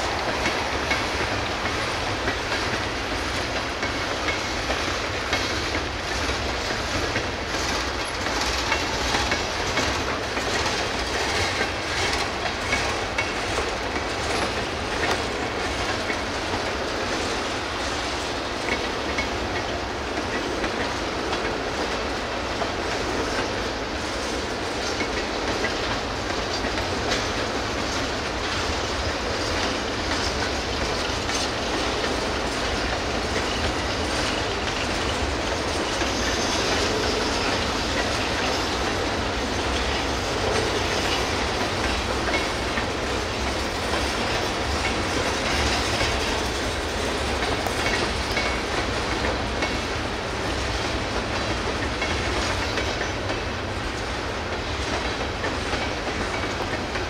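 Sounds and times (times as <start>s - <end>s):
train rumble: 0.0s - 57.0s
train wheels clicking over rail joints: 0.0s - 57.0s.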